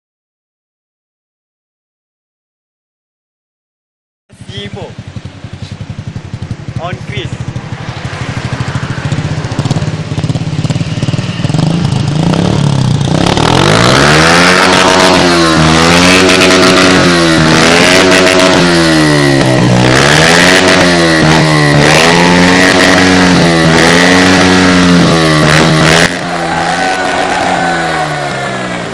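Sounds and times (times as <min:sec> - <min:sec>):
motorcycle engine revving: 0:04.3 - 0:28.9.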